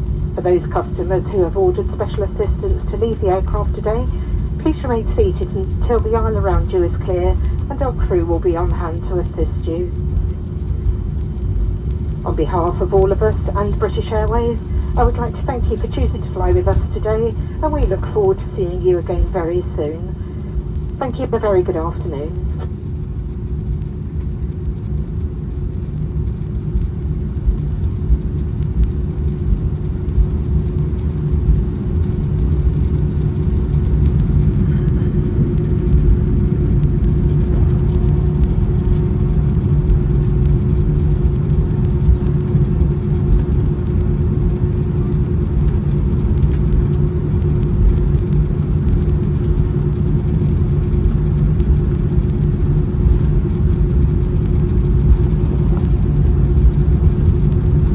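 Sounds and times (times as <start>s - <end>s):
jet engines idling: 0.0s - 57.9s
steady cabin hum: 0.0s - 57.9s.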